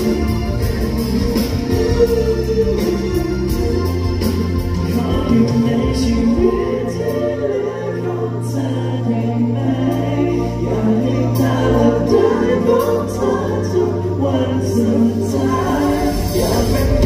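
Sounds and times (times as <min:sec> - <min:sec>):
pop song with singing voices: 0:00.0 - 0:17.0.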